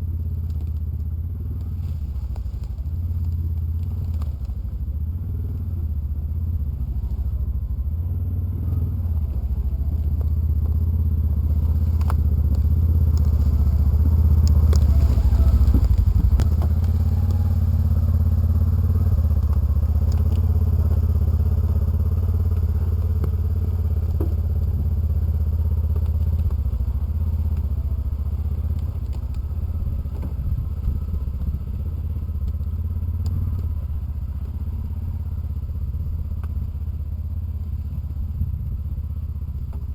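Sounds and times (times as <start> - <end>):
utility vehicle engine driving: 0.0 - 39.9.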